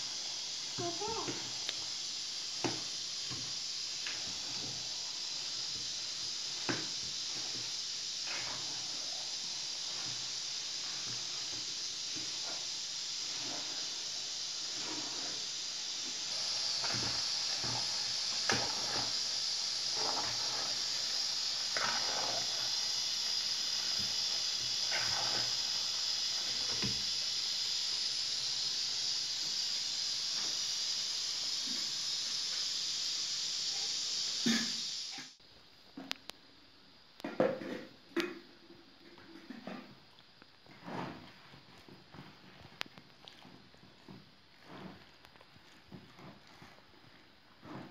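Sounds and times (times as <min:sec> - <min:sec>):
gas burner hissing: 0:00.0 - 0:35.4, 0:37.2 - 0:47.9.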